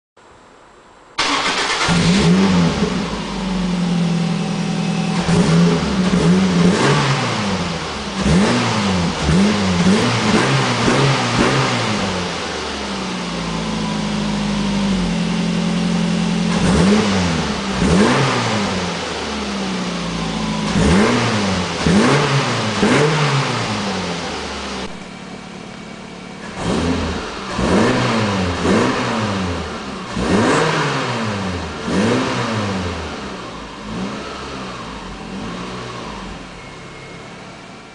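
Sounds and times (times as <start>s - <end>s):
car engine idling and revving: 1.2s - 37.9s.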